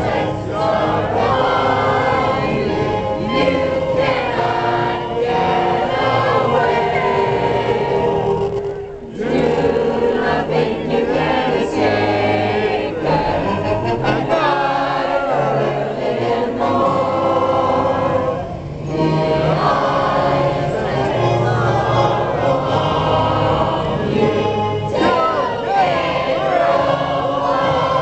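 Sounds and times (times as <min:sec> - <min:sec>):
choir singing held chords: 0:00.0 - 0:28.0.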